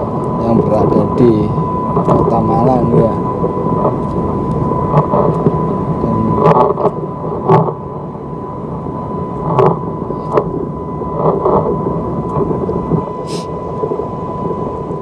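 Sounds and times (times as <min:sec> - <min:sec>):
faint steady tone: 0:00.0 - 0:15.0
wind buffeting microphone: 0:00.0 - 0:15.0.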